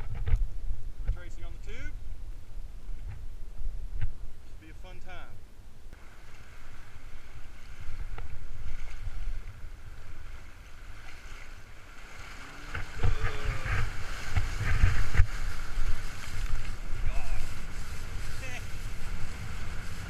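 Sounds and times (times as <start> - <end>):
muffled wind and water rumble: 0.0 - 20.0.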